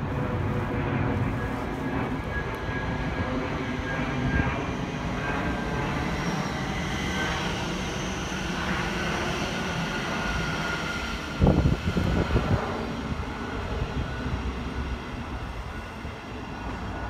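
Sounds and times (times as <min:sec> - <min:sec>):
electric train rumbling: 0:00.0 - 0:17.0
faint high whine: 0:00.0 - 0:17.0.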